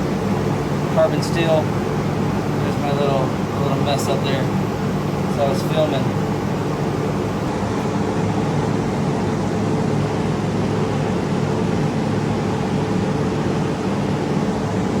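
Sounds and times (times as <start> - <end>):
machine hum with fan noise: 0.0 - 15.0.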